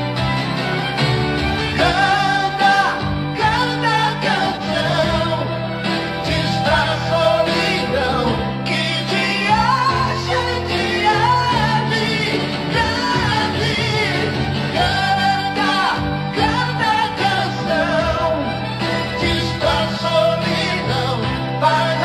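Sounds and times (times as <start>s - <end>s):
pop ballad with band: 0.0s - 22.0s
singing with vibrato: 1.7s - 22.0s.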